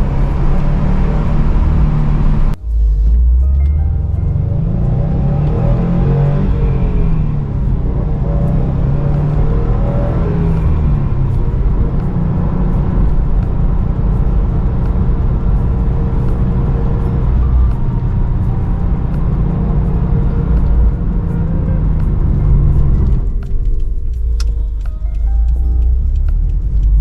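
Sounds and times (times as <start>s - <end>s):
car engine pulling on the road: 0.0s - 27.0s.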